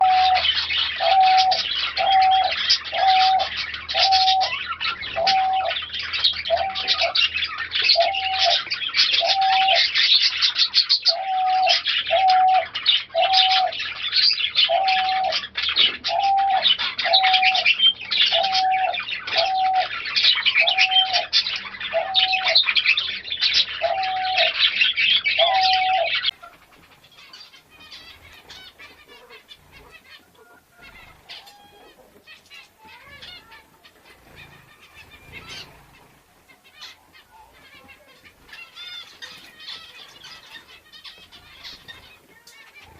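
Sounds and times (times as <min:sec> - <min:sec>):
dove cooing: 0:00.0 - 0:10.2, 0:11.0 - 0:42.9
small birds chirping and twittering: 0:00.0 - 0:42.9.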